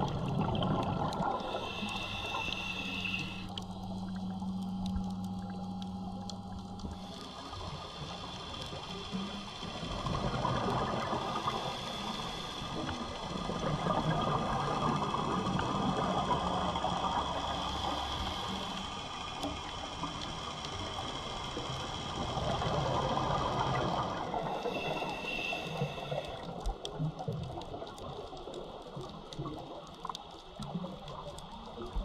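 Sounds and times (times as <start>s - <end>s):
underwater rushing and bubbling: 0.0s - 32.0s.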